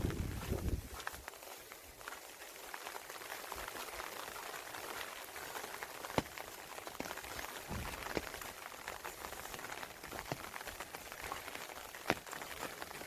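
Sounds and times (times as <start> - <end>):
rain falling: 0.0 - 13.0
raindrops tapping: 0.0 - 13.0.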